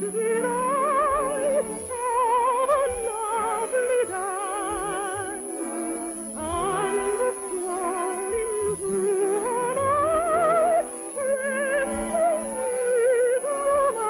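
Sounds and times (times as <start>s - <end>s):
orchestral accompaniment: 0.0s - 14.0s
soprano singing with vibrato: 0.0s - 14.0s.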